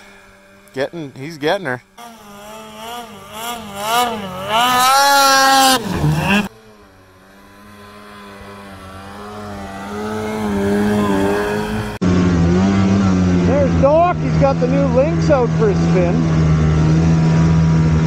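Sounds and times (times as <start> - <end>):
snowmobile engine revving: 0.0 - 18.0
snowmobile engine running steadily: 0.0 - 18.0.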